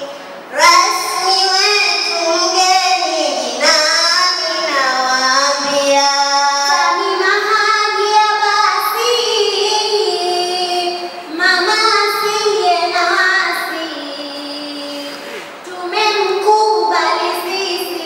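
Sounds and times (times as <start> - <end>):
girl chanting unaccompanied: 0.5 - 15.1.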